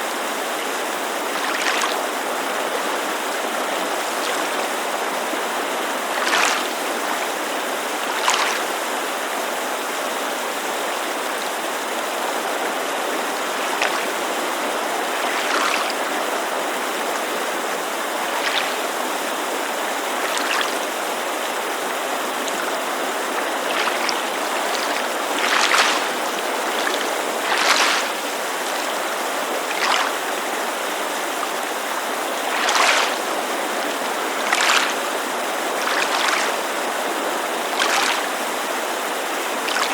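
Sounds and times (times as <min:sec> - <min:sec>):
mountain creek rushing: 0:00.0 - 0:39.9
waves lapping on shore: 0:00.0 - 0:39.9.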